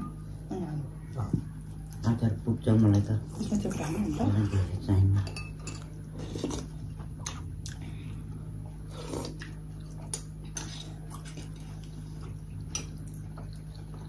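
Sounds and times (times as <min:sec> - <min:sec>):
people chewing: 0:01.2 - 0:14.0.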